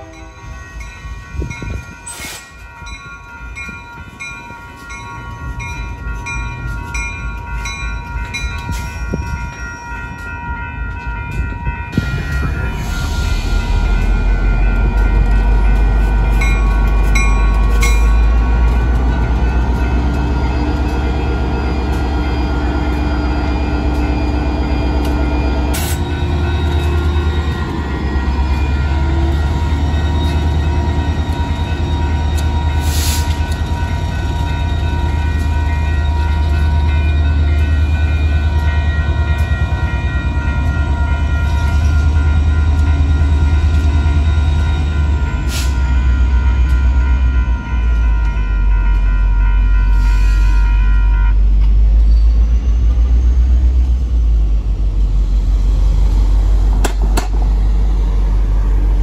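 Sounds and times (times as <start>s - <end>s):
crossing bell ringing tones: 0.0s - 54.7s
diesel locomotive rumbling: 0.0s - 59.0s.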